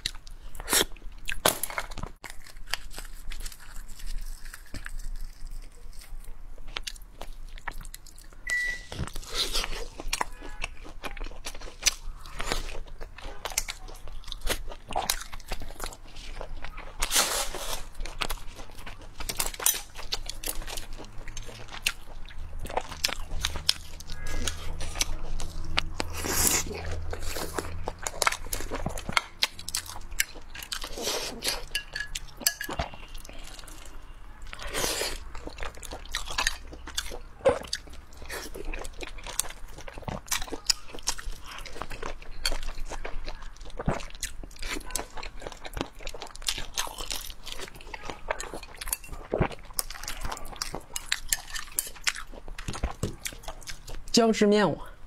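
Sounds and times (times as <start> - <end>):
crunching and chewing: 0.0 - 54.1.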